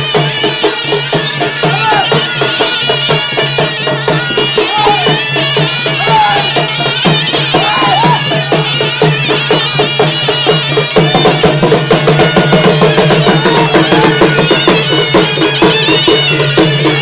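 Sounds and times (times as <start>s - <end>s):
hand drums beating fast rhythm: 0.0s - 17.0s
piping melody: 0.0s - 17.0s.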